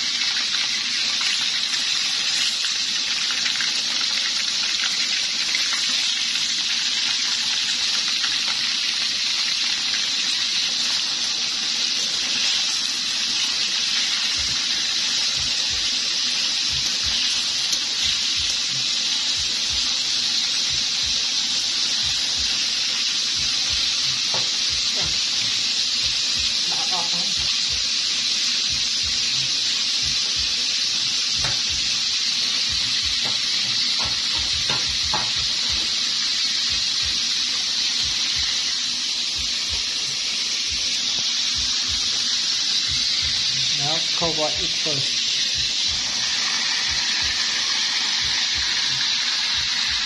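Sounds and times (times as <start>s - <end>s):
meat sizzling in hot oil: 0.0s - 50.0s.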